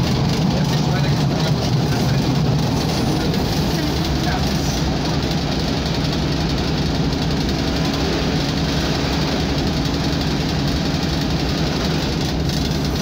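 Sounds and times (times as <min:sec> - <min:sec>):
diesel engine drone: 0:00.0 - 0:13.0
train wheel and rail noise: 0:00.0 - 0:13.0.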